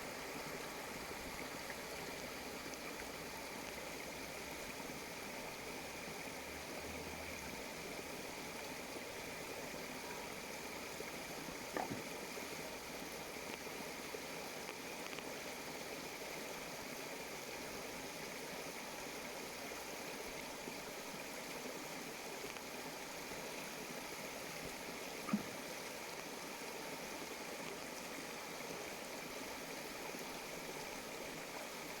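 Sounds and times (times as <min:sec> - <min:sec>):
stream water flowing: 0:00.0 - 0:32.0.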